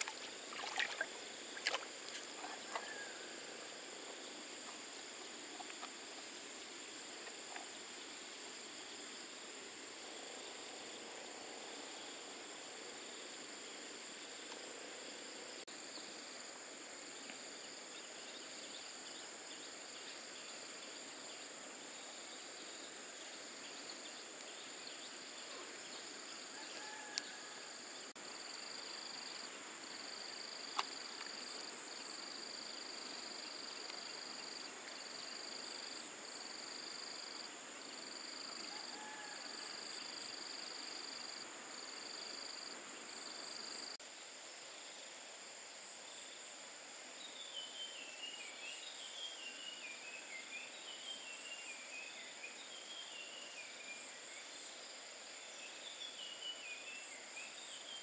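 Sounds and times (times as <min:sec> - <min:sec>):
high steady insect trill: 0:00.0 - 0:58.0.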